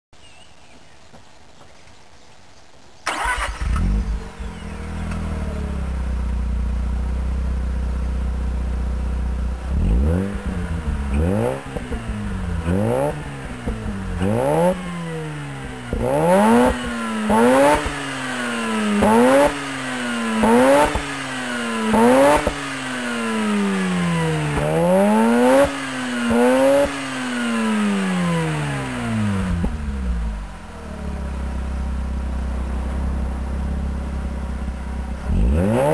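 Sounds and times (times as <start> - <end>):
rotary engine idling and revving: 3.1 - 35.9.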